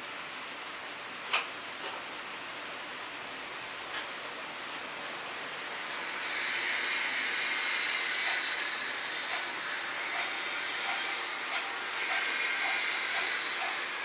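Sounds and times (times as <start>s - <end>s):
model train rolling: 2.8s - 14.0s.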